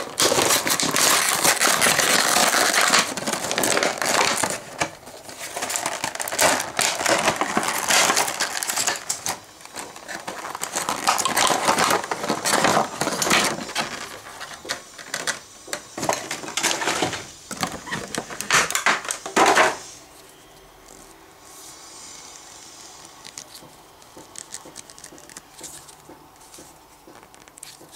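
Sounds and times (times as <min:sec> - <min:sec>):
packaging crinkling and rustling: 0:00.0 - 0:27.9.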